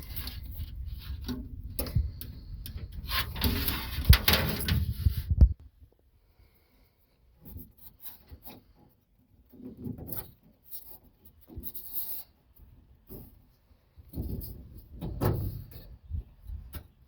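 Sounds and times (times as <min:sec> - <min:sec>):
rubbing and scraping of wiring: 0:00.0 - 0:05.6, 0:07.3 - 0:17.0.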